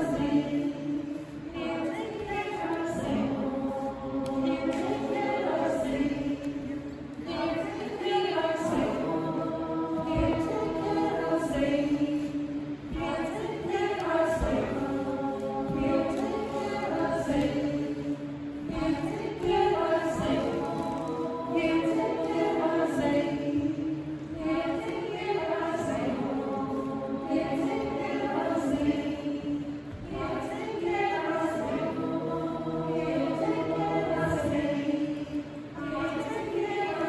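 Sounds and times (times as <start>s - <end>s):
choir singing a cappella: 0.0s - 37.0s.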